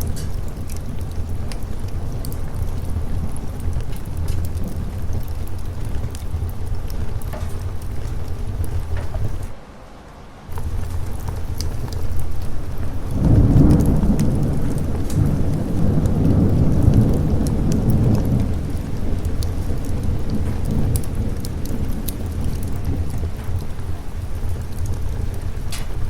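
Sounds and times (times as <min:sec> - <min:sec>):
thunder rumbling: 0:00.0 - 0:09.6, 0:10.5 - 0:26.0
steady rain: 0:00.0 - 0:26.0.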